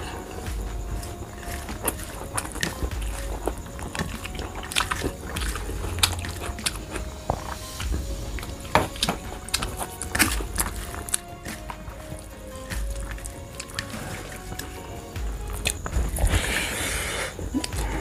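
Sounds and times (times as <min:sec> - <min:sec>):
wet chewing and lip smacks: 0:00.3 - 0:16.4.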